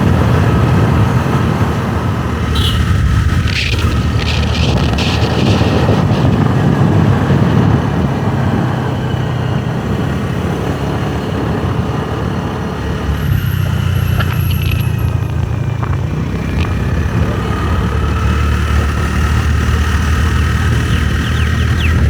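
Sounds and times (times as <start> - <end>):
motorbike engine running: 0.0 - 22.0
road noise: 0.0 - 22.0
wind on microphone: 0.0 - 22.0.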